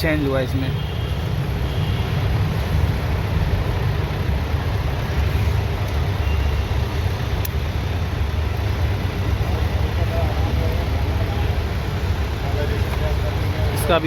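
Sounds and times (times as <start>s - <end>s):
engine running rumble: 1.1s - 14.0s.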